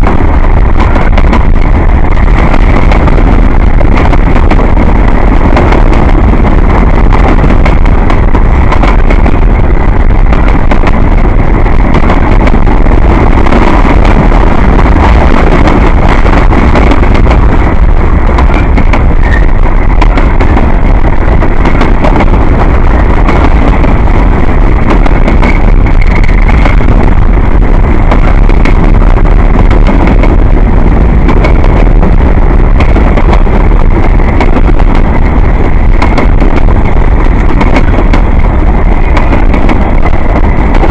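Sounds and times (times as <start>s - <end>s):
train clicks and clatters: 0.0s - 40.9s
train wheels rumbling on rail: 0.0s - 40.9s.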